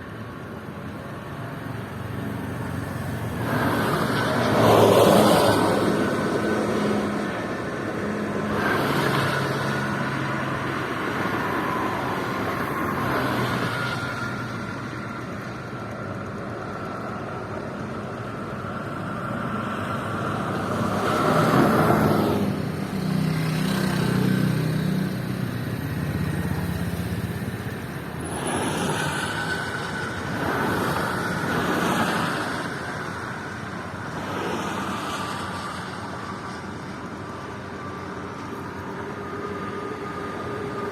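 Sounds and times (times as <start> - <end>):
vehicles passing at speed: 0.0 - 40.9.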